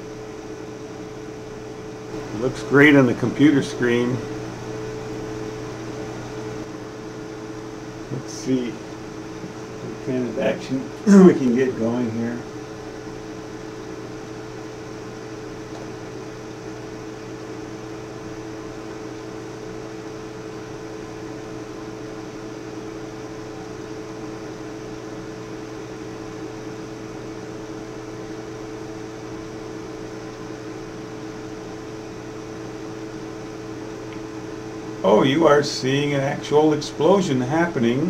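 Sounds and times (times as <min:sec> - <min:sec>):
electrical hum of lab equipment: 0:00.0 - 0:38.0.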